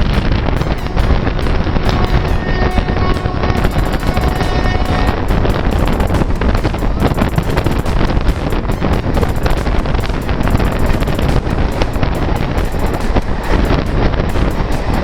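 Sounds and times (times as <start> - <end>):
train wheel and rail noise: 0.0 - 15.0
wind buffeting microphone: 0.0 - 15.0.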